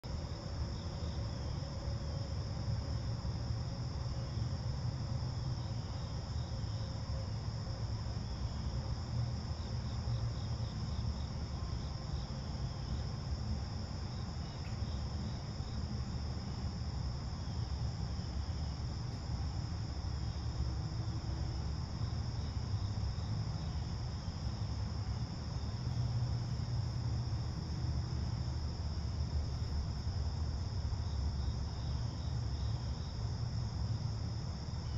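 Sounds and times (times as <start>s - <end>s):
constant low rumble: 0.0s - 34.9s
crickets chirping: 0.0s - 34.9s.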